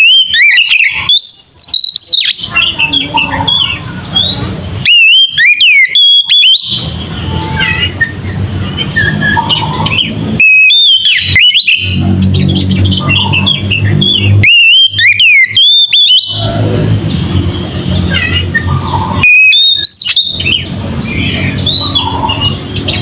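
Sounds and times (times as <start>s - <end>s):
bird singing whistled notes: 0.0s - 23.0s.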